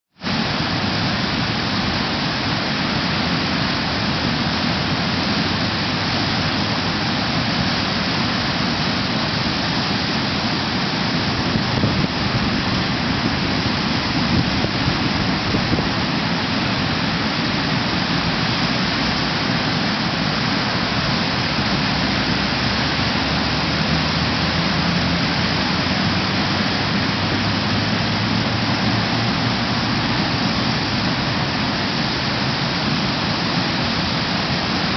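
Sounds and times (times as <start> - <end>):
floodwater pouring over a weir: 0.2 - 34.9.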